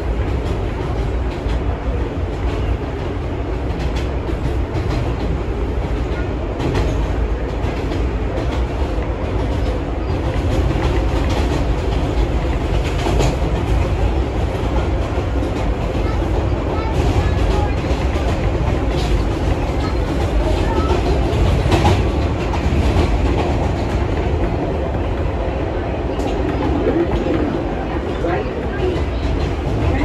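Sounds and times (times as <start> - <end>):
subway train wheels rumbling on rail: 0.0 - 30.0.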